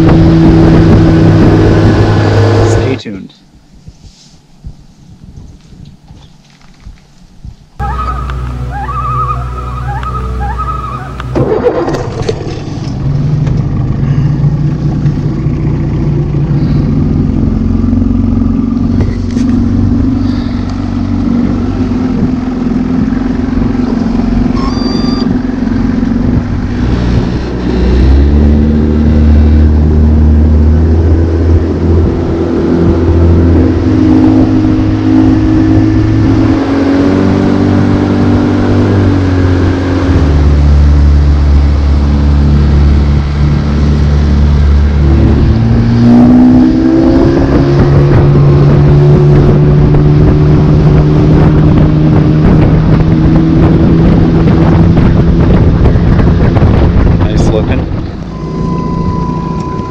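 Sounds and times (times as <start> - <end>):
motorboat engine running: 0.0 - 3.0, 7.8 - 59.9.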